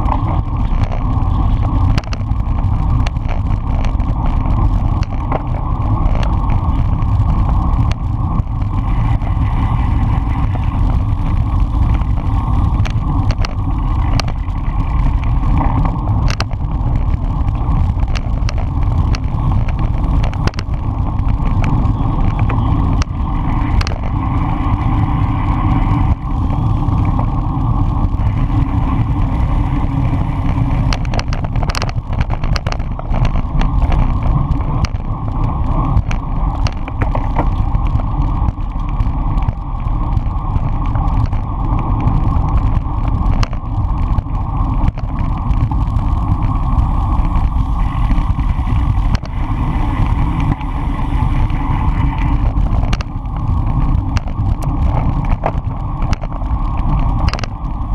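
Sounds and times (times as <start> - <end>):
road rumble: 0.0 - 57.9
wind rush: 0.0 - 57.9.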